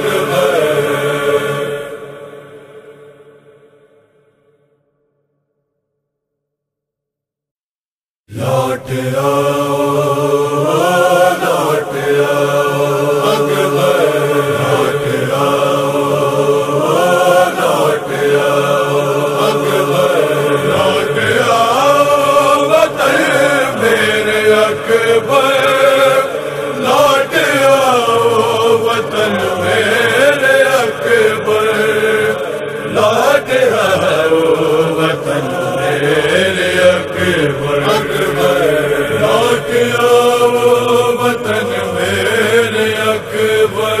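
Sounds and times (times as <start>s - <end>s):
person chanting a lament: 0.0s - 3.2s, 8.3s - 44.0s.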